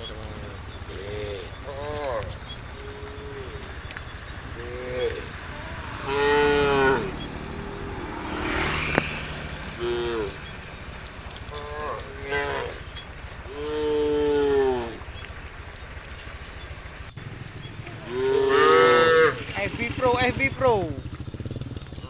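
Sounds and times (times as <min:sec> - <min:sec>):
cows mooing: 0:00.0 - 0:16.8, 0:17.4 - 0:21.2.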